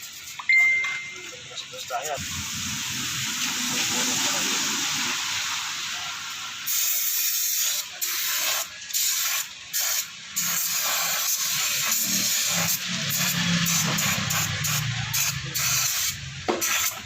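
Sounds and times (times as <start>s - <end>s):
pressurised spray hissing: 1.5s - 17.0s.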